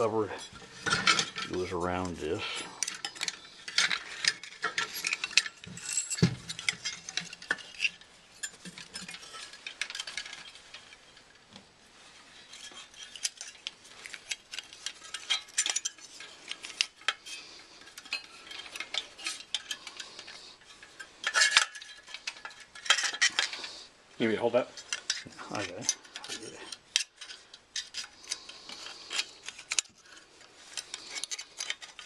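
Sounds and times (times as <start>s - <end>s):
metal parts clicking and scraping: 0.0s - 32.0s.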